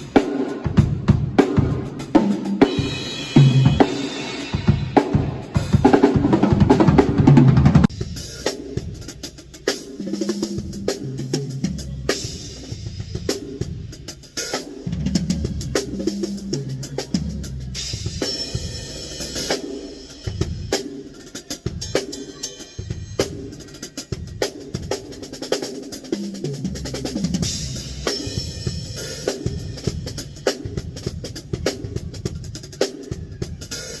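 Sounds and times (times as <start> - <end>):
acoustic drum kit playing: 0.0 - 34.0.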